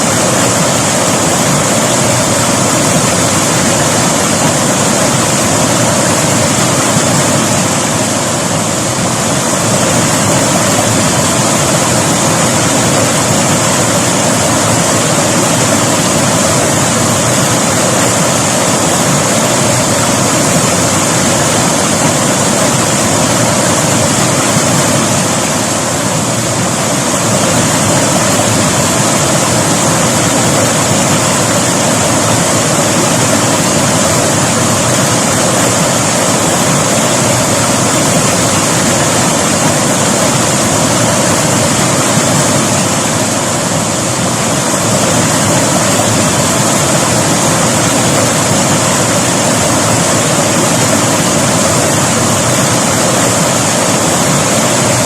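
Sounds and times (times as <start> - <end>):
river water rushing and splashing: 0.0 - 55.0.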